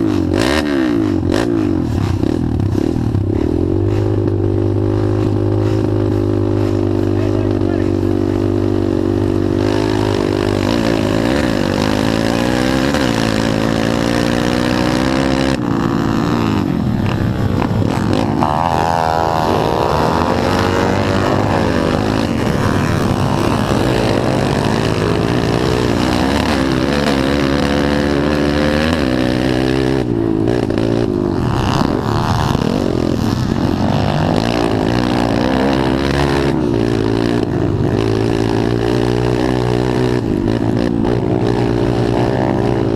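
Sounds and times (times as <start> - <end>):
pit bike engines racing: 0.0 - 42.9.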